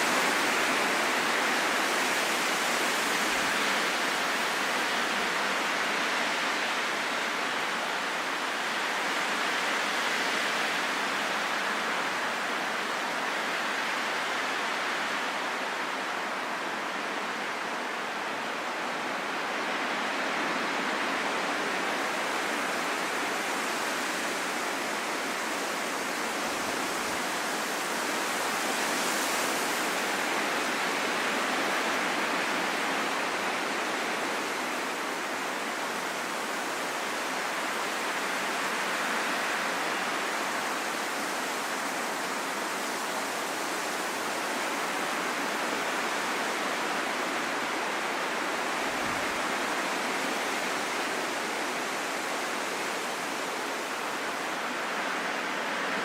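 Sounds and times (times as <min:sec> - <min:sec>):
steady rain in forest: 0:00.0 - 0:56.0.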